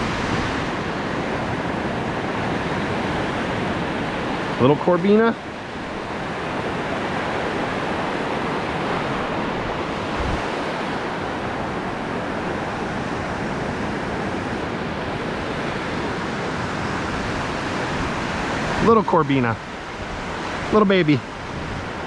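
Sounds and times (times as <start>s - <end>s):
ocean surf washing on sand: 0.0s - 22.0s.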